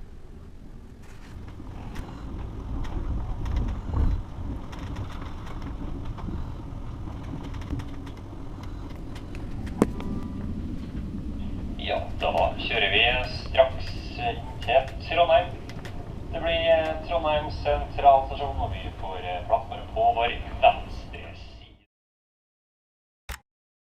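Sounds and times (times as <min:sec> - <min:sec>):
train rumbling on track: 0:00.0 - 0:21.9
track clicks and rattles: 0:00.9 - 0:21.3.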